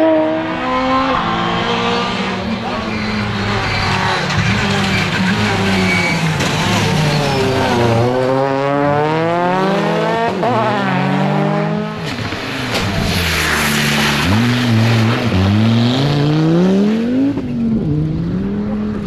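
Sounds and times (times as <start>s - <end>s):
rally car engines revving: 0.0s - 19.0s.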